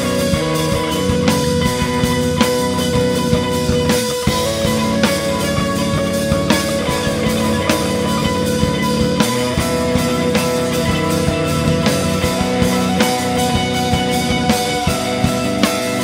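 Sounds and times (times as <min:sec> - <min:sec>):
bass guitar: 0:00.0 - 0:16.0
electric guitar held notes: 0:00.0 - 0:16.0
steady drum beat: 0:00.0 - 0:16.0.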